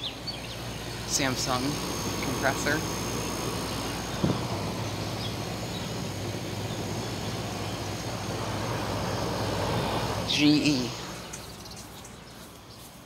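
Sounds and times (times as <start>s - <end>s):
compressor hum: 0.0s - 13.0s
condenser fan rushing: 0.0s - 13.0s.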